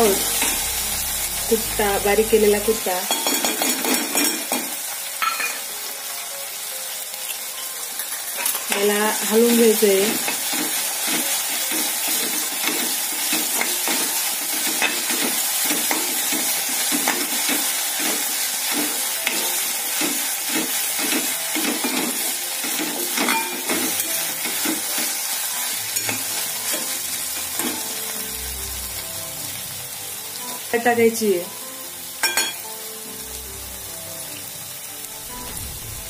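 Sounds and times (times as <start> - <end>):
vegetables sizzling in oil: 0.0 - 36.0.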